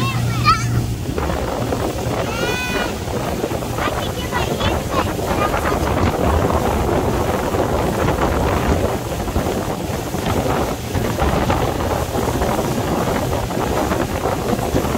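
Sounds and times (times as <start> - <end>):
outboard motor running: 0.0 - 14.9
water rushing past hull: 0.0 - 14.9
wind buffeting microphone: 0.0 - 14.9.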